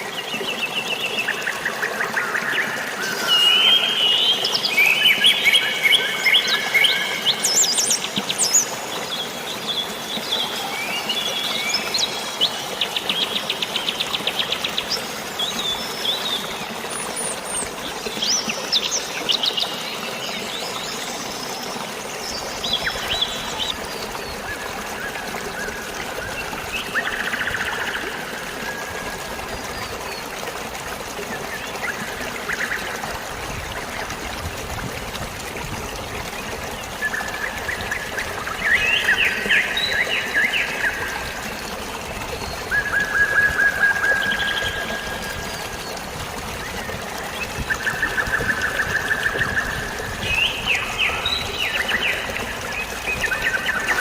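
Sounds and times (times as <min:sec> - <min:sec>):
running water: 0:00.0 - 0:54.0
songbirds trilling and chirping: 0:00.0 - 0:54.0.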